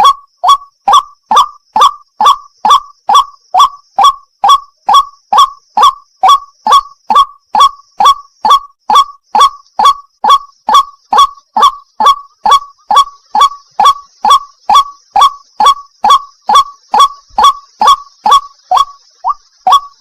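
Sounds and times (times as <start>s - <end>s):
bird harsh kwak calls: 0.0s - 20.0s.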